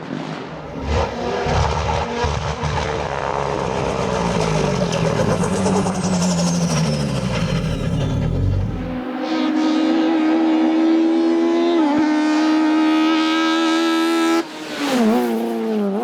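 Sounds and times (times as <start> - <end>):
race car engine at full throttle: 0.0 - 16.0.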